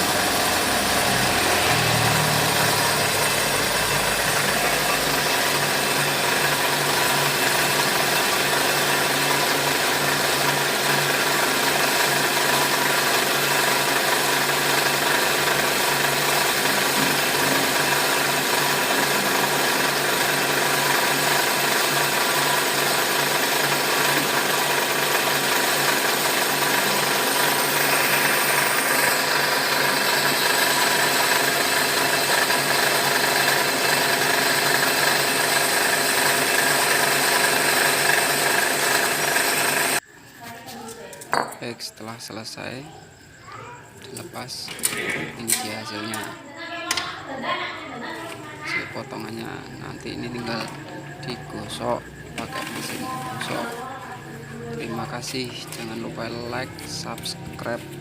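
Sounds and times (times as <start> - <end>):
boring machine humming: 0.0 - 40.1, 47.9 - 58.0.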